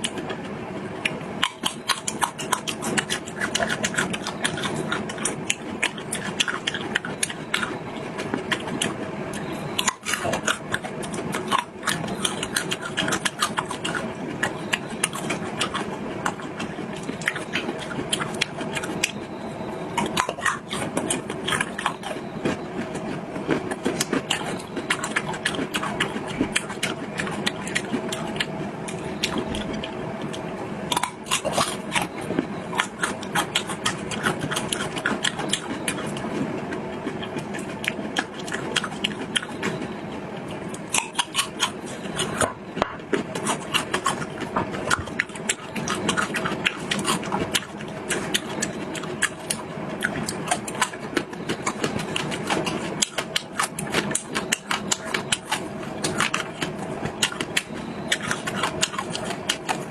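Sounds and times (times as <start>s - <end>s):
close chewing and eating: 0.0s - 59.9s
steady low hum: 0.0s - 59.9s.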